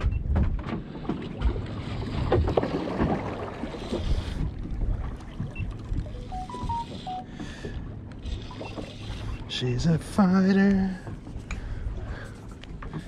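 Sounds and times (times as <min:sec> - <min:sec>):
water against boat: 0:00.0 - 0:13.0.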